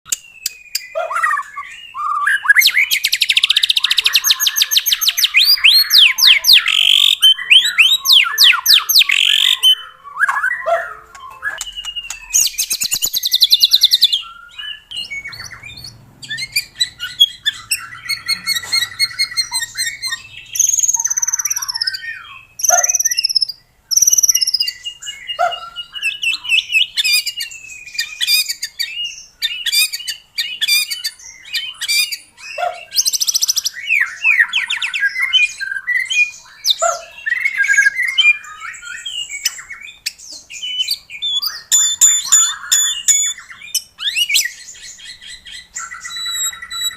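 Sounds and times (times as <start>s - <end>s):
songbird singing: 0.1s - 46.9s.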